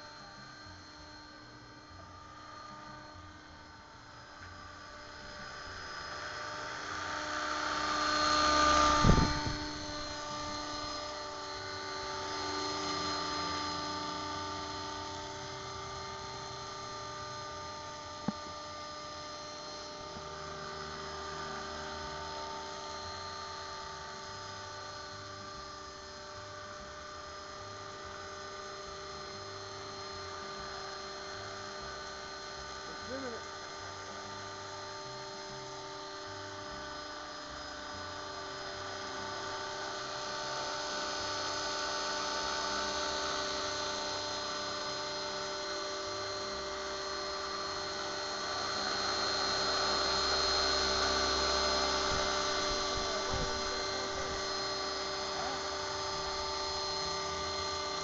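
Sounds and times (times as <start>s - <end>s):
model helicopter whine: 0.0s - 58.0s.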